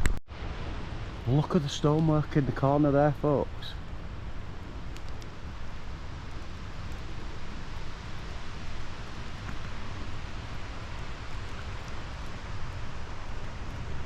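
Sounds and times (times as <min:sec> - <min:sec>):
wind buffeting microphone: 0:00.4 - 0:14.0.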